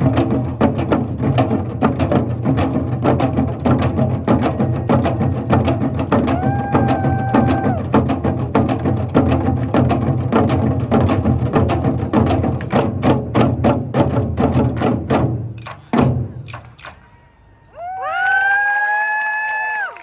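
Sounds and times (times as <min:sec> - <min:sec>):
hourglass drums ensemble playing: 0:00.0 - 0:17.1.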